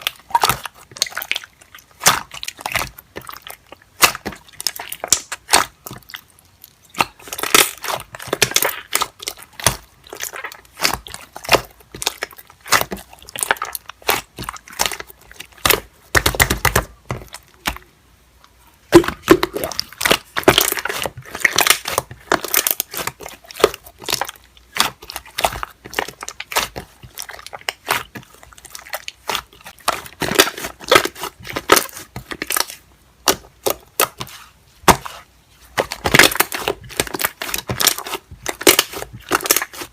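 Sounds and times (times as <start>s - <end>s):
slime crackling and popping: 0.0s - 17.9s, 18.9s - 39.9s.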